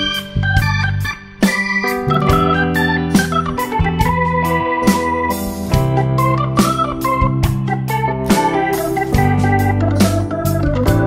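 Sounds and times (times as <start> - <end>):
keyboard chords over steady beat: 0.0 - 11.0.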